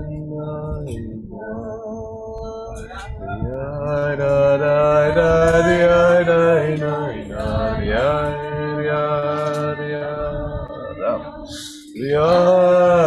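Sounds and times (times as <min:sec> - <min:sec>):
group singing wordless melody: 0:00.0 - 0:13.0.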